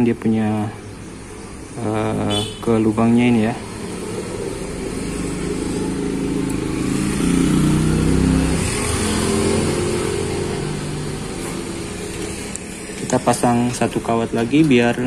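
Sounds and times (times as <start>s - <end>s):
vehicle engine passing by: 1.0s - 15.0s.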